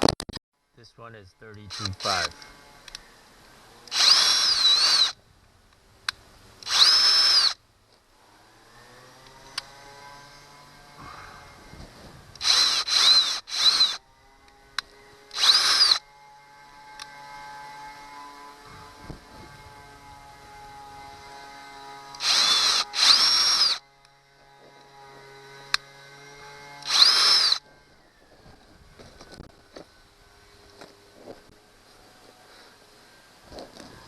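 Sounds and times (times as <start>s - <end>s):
power drill whine: 1.7s - 5.2s, 6.6s - 7.6s, 8.2s - 31.1s.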